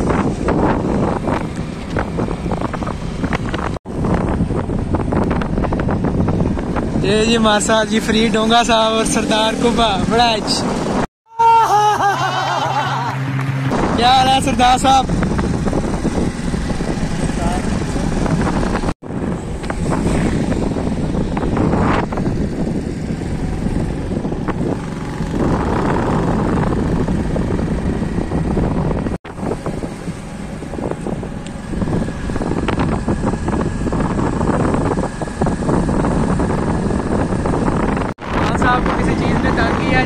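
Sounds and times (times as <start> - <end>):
motorcycle engine running: 0.0 - 11.0, 13.2 - 40.0
wind buffeting microphone: 0.0 - 11.1, 13.3 - 40.0.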